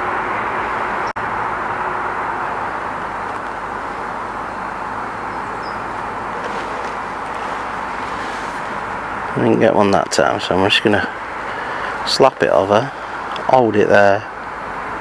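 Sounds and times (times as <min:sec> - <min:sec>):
outdoor background rush: 0:00.0 - 0:15.0.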